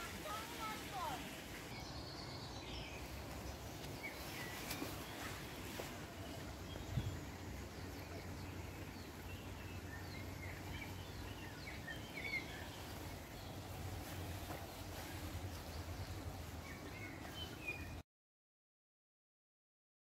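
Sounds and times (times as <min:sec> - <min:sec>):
small birds chirping and trilling: 0:00.0 - 0:18.0.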